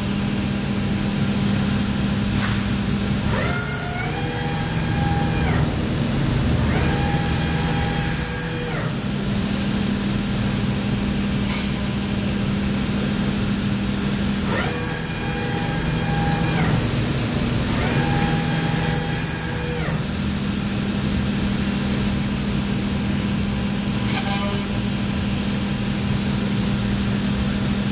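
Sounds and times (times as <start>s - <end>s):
motor whine rising in pitch: 0.0s - 22.9s
milling machine humming and whining: 0.0s - 27.9s.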